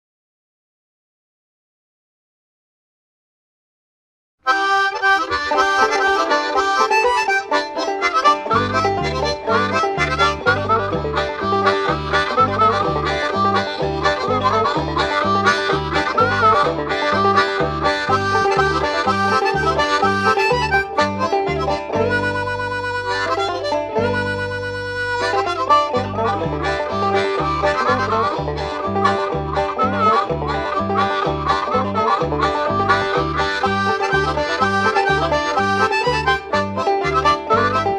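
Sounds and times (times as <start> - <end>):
acoustic guitar: 4.5 - 37.9
bass notes: 4.5 - 37.9
harmonica: 4.5 - 37.9.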